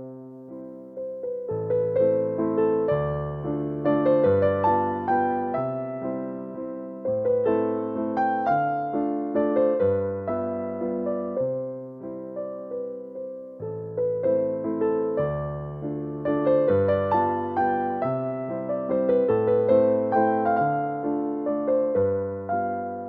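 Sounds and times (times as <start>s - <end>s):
electric piano slow melody: 0.0s - 23.0s.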